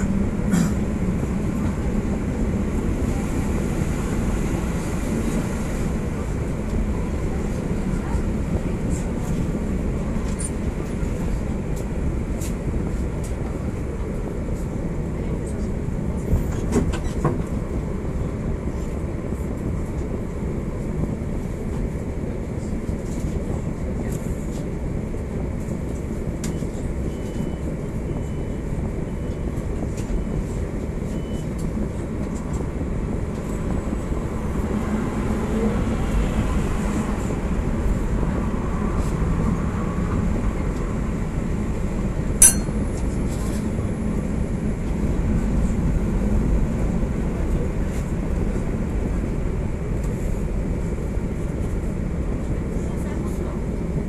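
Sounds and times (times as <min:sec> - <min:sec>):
tram low rumble and hum: 0:00.0 - 0:54.0.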